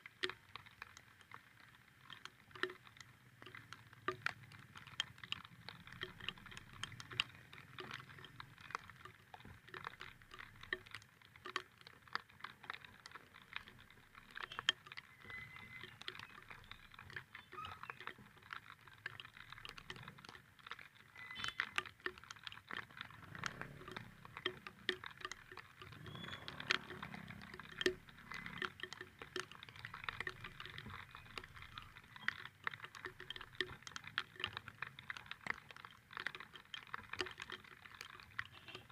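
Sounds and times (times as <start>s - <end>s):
raindrops ticking: 0.0s - 38.9s.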